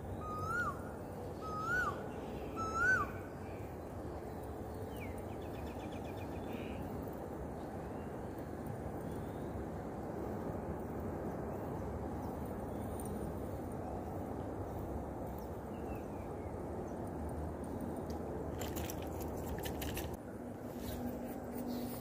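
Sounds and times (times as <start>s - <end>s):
low background noise: 0.0s - 22.0s.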